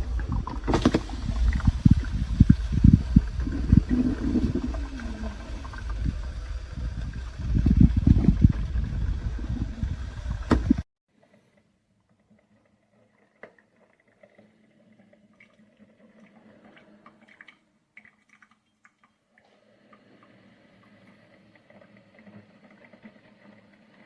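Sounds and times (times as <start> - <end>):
coffee maker gurgling and sputtering: 0.0 - 18.6, 19.3 - 24.0.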